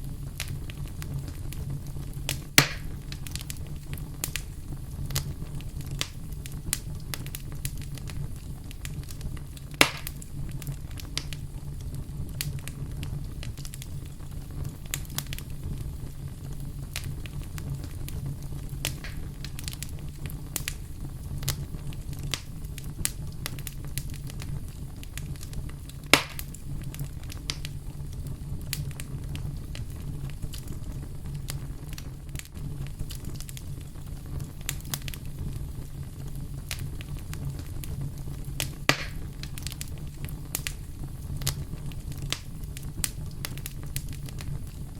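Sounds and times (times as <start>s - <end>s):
campfire crackling: 0.0s - 44.9s
loud fire pops: 0.0s - 44.9s.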